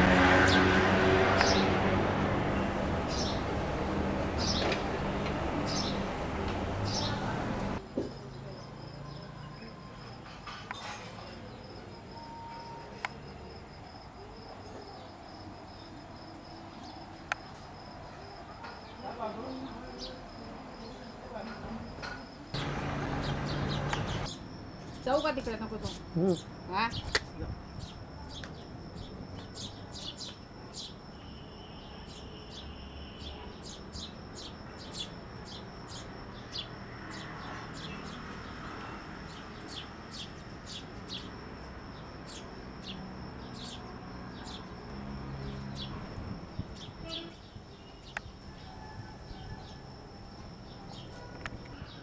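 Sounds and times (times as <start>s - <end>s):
sparrows chirping: 0.0s - 9.8s, 14.4s - 49.8s, 50.6s - 52.0s.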